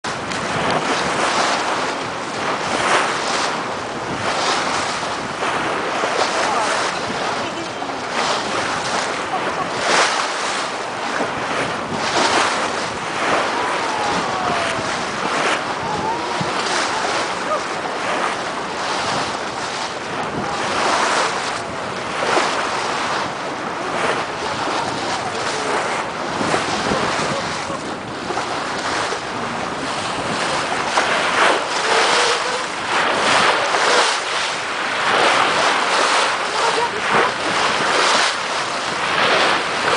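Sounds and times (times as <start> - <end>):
water splashing along boat hull: 0.0 - 39.9
wind buffeting microphone: 0.0 - 39.9.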